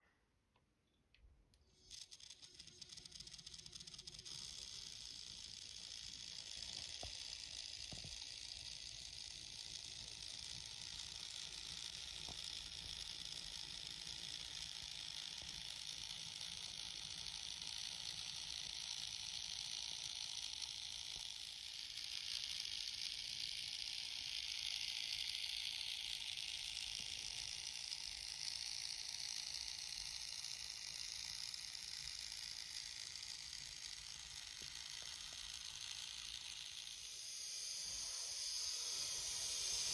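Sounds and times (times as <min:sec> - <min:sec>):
model train motor whirring: 0:01.5 - 0:39.9.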